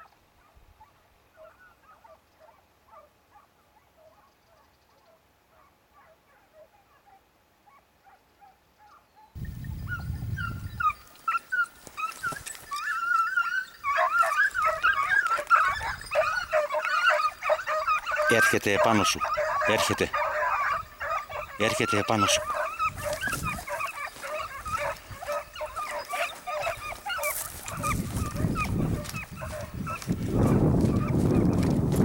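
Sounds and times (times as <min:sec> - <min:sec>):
hounds baying: 0:00.4 - 0:32.0.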